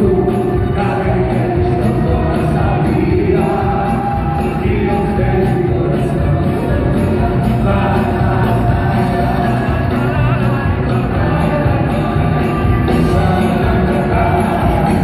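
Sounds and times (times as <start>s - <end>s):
live band playing: 0.0s - 15.0s
man singing: 0.0s - 15.0s.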